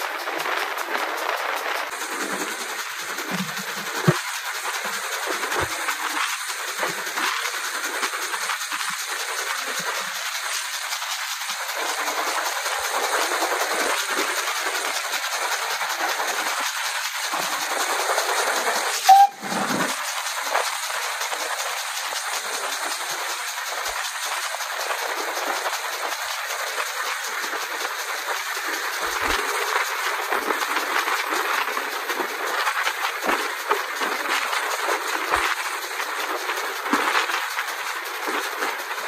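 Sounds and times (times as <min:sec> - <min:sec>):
train rushing hiss: 0:00.0 - 0:39.0.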